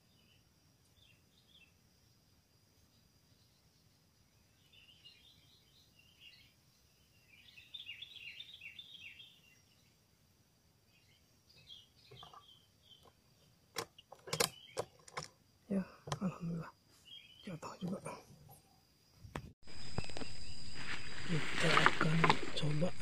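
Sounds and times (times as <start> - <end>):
small birds twittering: 0.0 - 10.0, 10.8 - 23.0.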